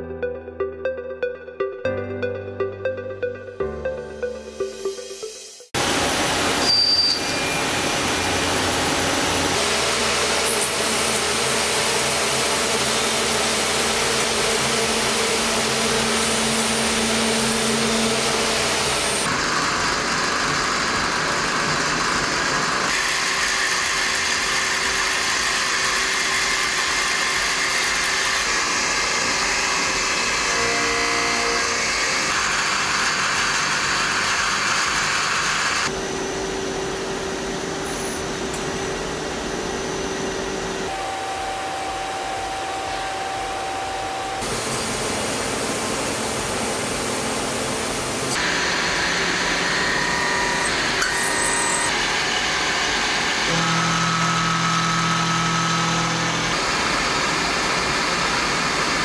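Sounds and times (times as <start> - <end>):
lathe machine whine and hiss: 5.8 - 59.0.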